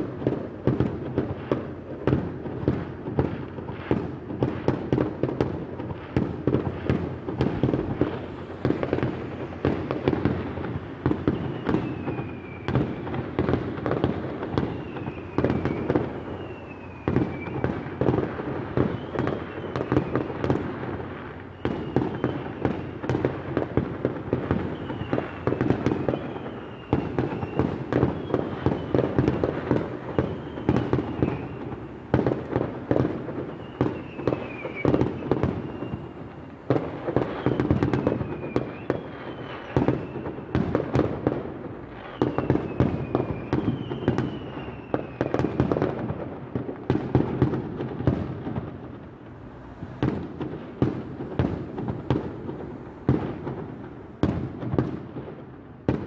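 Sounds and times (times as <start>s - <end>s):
falling firework whistles: 0.0s - 56.0s
fireworks crackling and banging: 0.0s - 56.0s.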